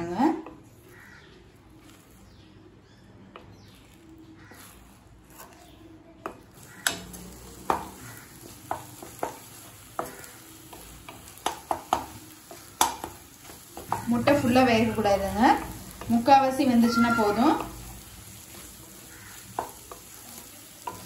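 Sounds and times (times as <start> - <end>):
eggs sizzling in a pan: 0.0 - 21.0
spatula scraping and tapping pan: 3.2 - 21.0.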